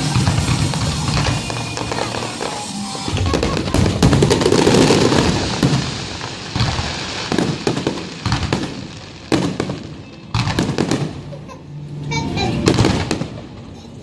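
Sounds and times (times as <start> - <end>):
fireworks exploding: 0.0 - 11.6, 12.4 - 14.0.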